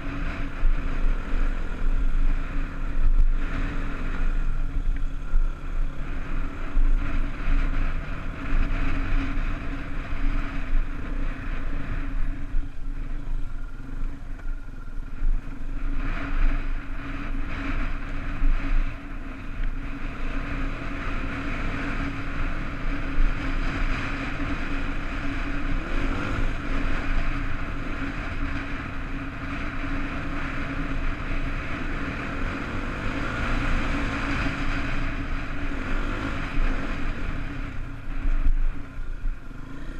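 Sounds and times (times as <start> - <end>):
dirt bike engine running: 0.0 - 39.9
wind rumbling on microphone: 0.0 - 39.9.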